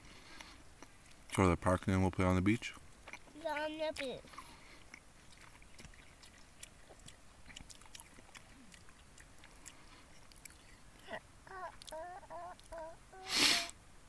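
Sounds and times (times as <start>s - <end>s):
child chewing food: 0.0s - 1.4s, 2.7s - 13.7s.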